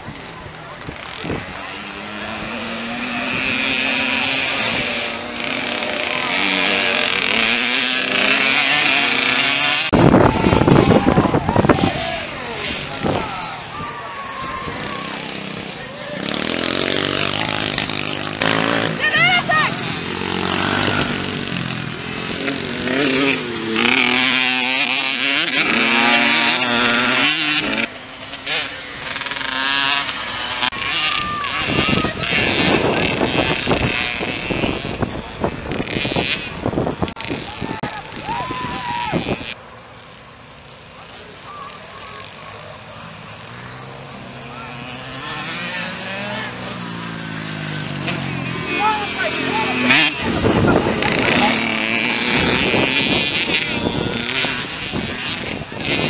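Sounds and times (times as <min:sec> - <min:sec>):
dirt bikes revving past: 0:00.0 - 0:56.0.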